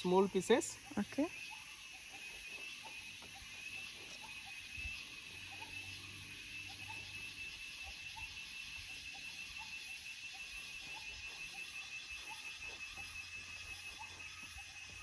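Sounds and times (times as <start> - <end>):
high-pitched insect drone: 0.0 - 15.0
faint rising chirps: 0.4 - 15.0.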